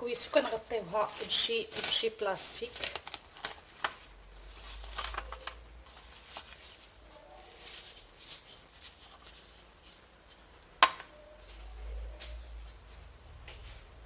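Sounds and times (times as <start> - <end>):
plastic film rustling: 0.0 - 11.7.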